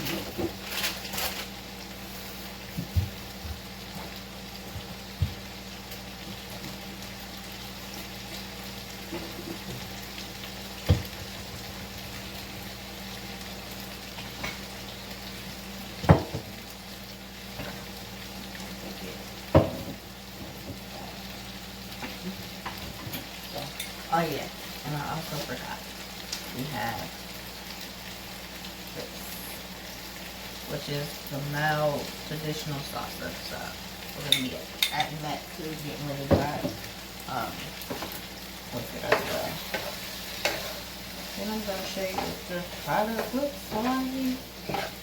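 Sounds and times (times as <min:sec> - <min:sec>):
food sizzling in a frying pan: 0:00.0 - 0:45.0.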